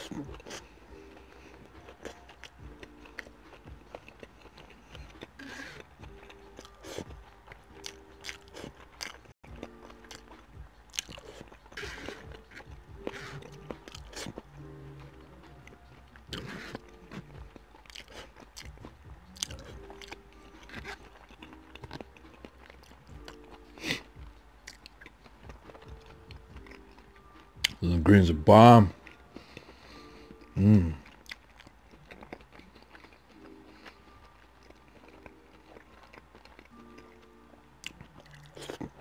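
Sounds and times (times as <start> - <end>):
chewing and crunching food: 0.0 - 39.0
quiet background music: 0.0 - 39.0.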